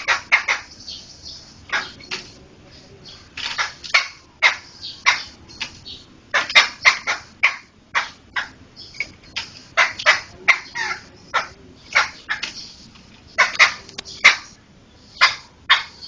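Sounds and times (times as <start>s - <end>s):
bird chattering calls: 0.0s - 16.0s.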